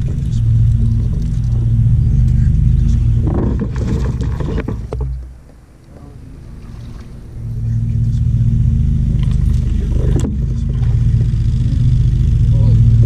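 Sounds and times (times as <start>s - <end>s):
water splashing and sloshing: 0.0s - 8.3s, 9.0s - 12.2s
low hum: 0.0s - 13.0s.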